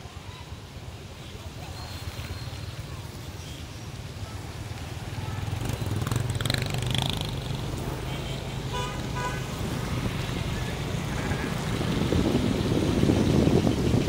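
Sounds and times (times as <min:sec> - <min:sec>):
motorbike traffic on wet street: 0:00.0 - 0:14.0.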